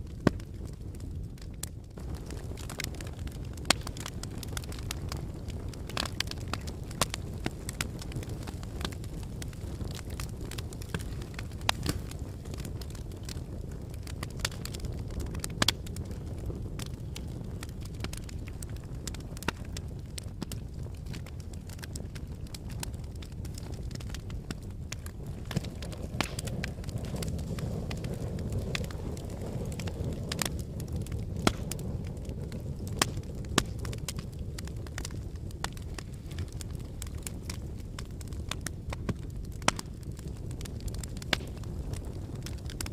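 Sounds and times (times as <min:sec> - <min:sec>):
fire popping: 0:00.0 - 0:42.9
wood fire crackling: 0:00.0 - 0:42.9.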